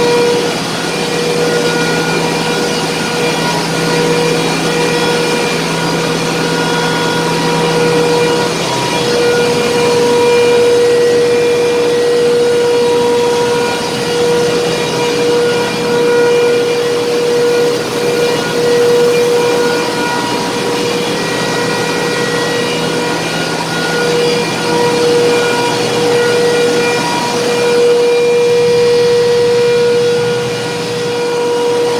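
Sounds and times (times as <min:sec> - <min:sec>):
boiler machinery noise: 0:00.0 - 0:31.9
constant tone: 0:00.0 - 0:31.9.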